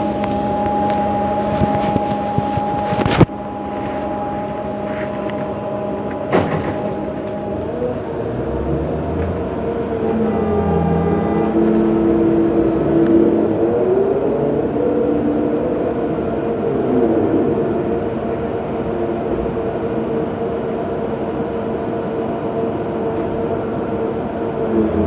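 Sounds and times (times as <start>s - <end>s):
excavator engines and hydraulics drone: 0.0s - 25.0s.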